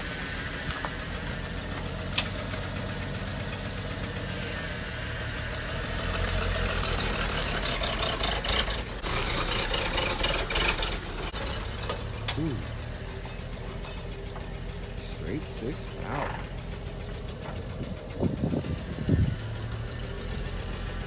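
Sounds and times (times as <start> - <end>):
pickup engine running at low revs: 0.0 - 21.0.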